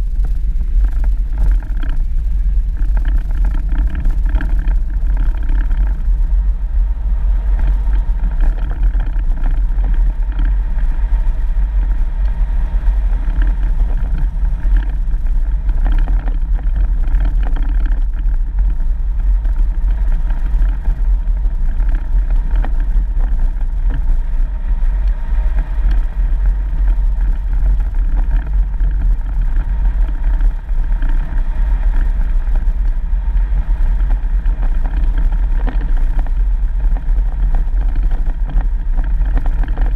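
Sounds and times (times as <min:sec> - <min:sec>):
vehicle driving on dirt road: 0:00.0 - 0:39.9.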